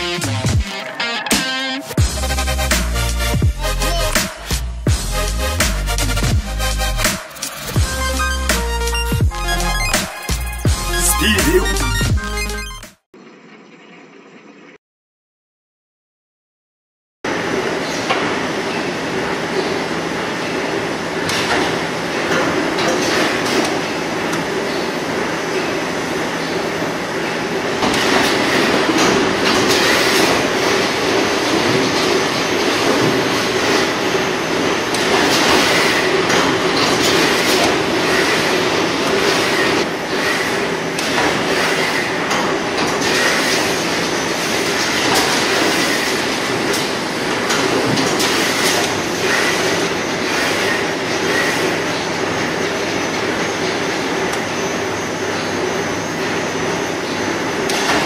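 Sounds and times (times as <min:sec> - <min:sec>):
machining center running: 0:00.0 - 0:14.8, 0:17.3 - 0:58.0.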